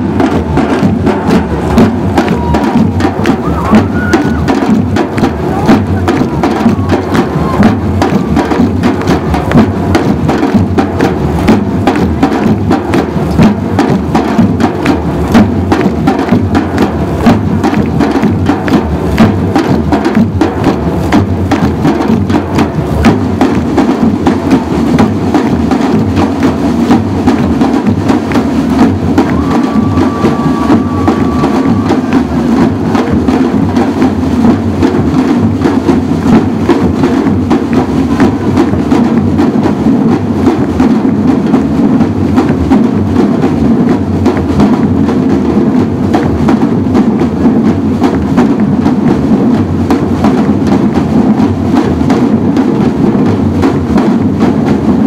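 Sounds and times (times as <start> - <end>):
drum ensemble playing: 0.0 - 55.0.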